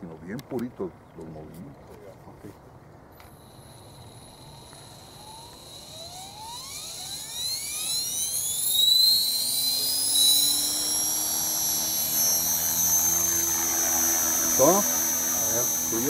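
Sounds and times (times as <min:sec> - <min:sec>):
rc helicopter motor whine: 0:03.1 - 0:16.0.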